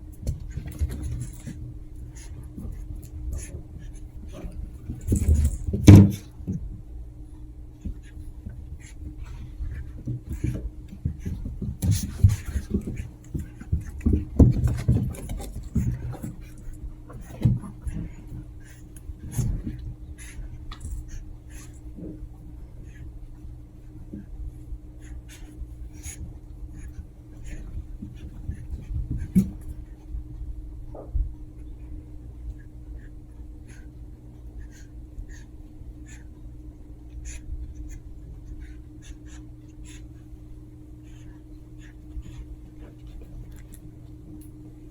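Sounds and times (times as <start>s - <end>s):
puppies scuffling and scratching: 0.0s - 44.9s
steady low hum: 0.0s - 44.9s.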